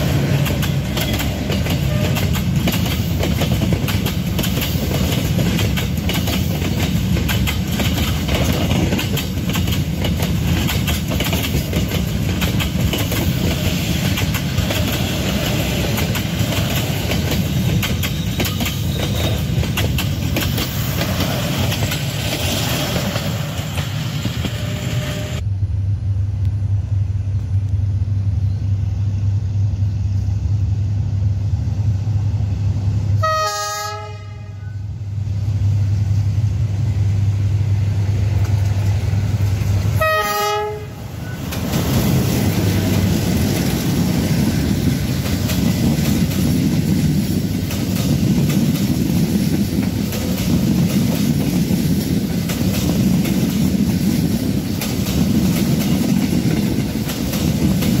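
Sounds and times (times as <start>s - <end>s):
distant diesel locomotive hum: 0.0s - 58.0s
train wheels on rails: 0.0s - 58.0s.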